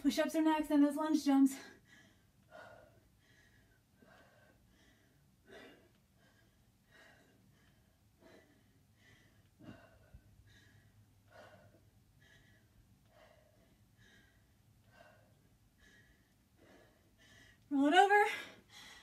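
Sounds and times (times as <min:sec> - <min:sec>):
woman breathing heavily: 0:01.3 - 0:19.0.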